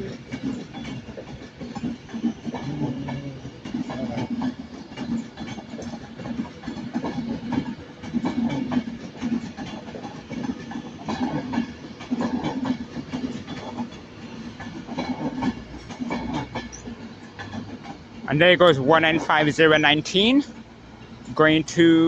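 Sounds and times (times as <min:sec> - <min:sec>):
train rumble and hiss: 0:00.0 - 0:22.0
train wheels clattering: 0:00.0 - 0:22.0.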